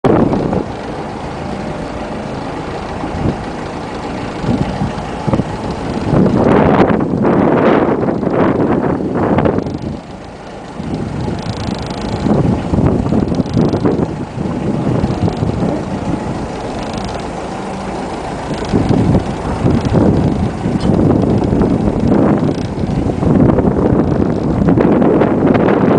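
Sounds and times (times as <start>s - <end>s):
wind buffeting the microphone: 0.0s - 25.9s.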